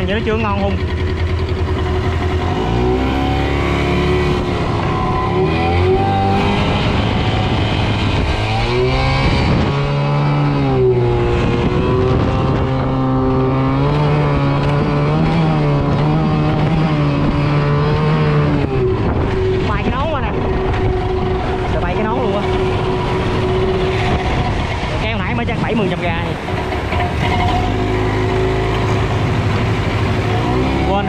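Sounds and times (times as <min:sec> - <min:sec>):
motorbike engine revving: 0:00.0 - 0:31.0.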